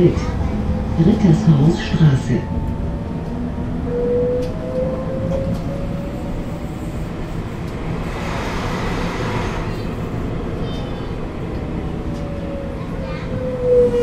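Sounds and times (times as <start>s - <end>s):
tram drive whine: 0.0s - 14.0s
tram wheels rumbling on rail: 0.0s - 14.0s.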